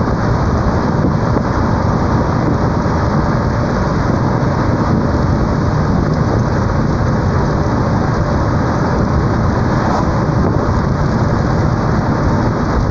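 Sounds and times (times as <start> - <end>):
storm wind roaring: 0.0 - 12.9.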